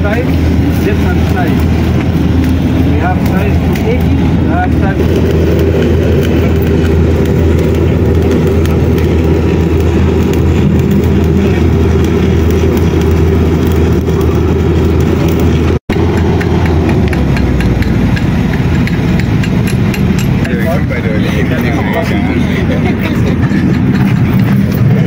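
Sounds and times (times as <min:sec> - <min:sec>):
machinery engine humming: 0:00.0 - 0:25.0.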